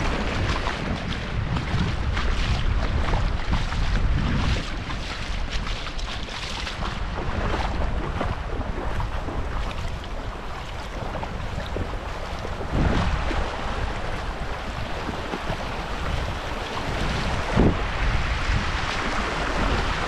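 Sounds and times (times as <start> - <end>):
rushing meltwater: 0.0 - 20.0
wind rumbling on microphone: 0.0 - 20.0.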